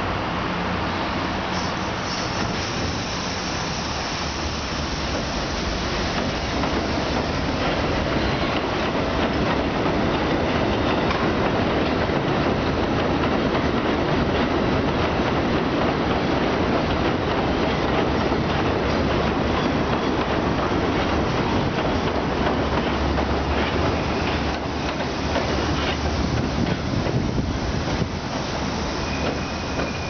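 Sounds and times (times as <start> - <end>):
subway train pulling out: 0.0 - 30.0.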